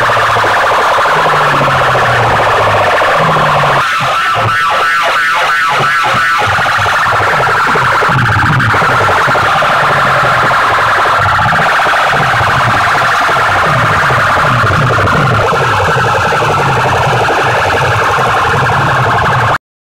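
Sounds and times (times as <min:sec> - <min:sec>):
sliding bass notes: 0:00.0 - 0:04.8, 0:05.4 - 0:19.6
shrill high tone: 0:00.0 - 0:19.4
distorted electronic music: 0:00.0 - 0:19.6
pulsing tone: 0:00.0 - 0:19.6.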